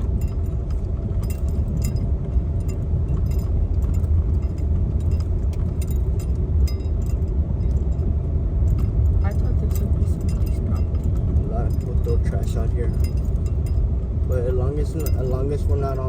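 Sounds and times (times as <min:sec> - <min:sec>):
car road and engine rumble: 0:00.0 - 0:16.0
small clinking rattles: 0:00.0 - 0:16.0.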